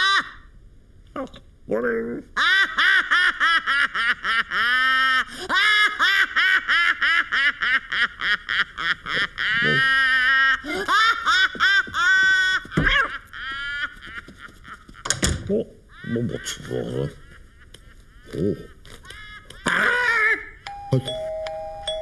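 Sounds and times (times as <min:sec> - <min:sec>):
cartoon character laughing: 0:00.0 - 0:00.5, 0:02.4 - 0:15.1, 0:15.9 - 0:20.6.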